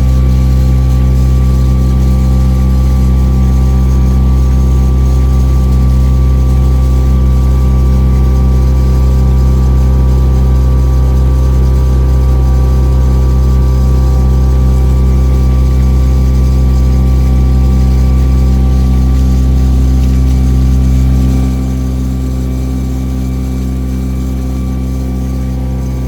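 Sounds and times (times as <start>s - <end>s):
boat engine drone: 0.0s - 26.0s.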